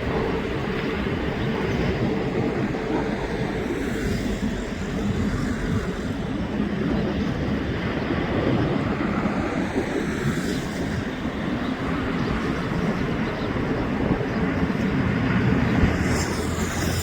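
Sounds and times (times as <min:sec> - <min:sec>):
jet engines during takeoff: 0:00.0 - 0:17.0.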